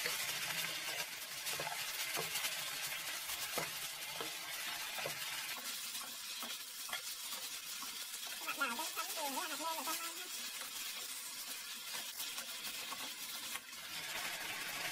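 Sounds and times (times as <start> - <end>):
chopsticks tapping pan: 0.0 - 13.4
food sizzling in oil: 0.0 - 14.9.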